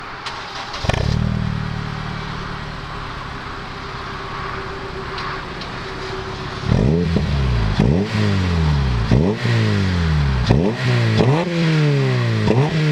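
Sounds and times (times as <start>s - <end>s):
car engine idling and revving: 0.0s - 12.9s.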